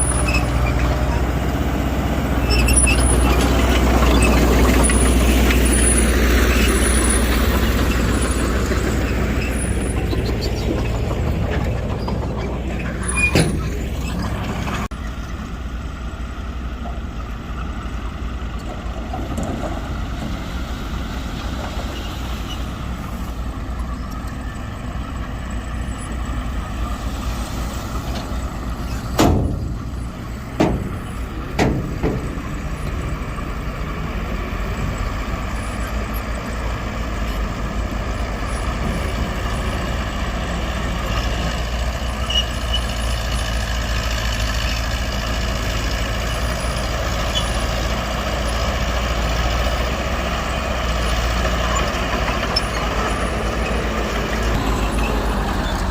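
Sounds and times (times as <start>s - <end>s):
diesel earthmoving machinery running: 0.0s - 55.9s.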